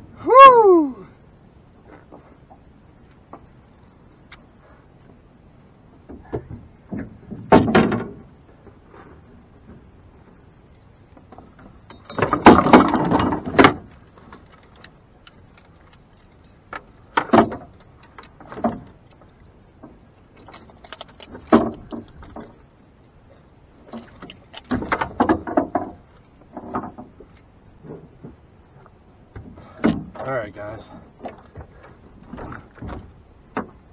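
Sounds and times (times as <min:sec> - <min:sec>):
fish and gear handled on deck: 0:06.0 - 0:30.3, 0:30.9 - 0:33.9.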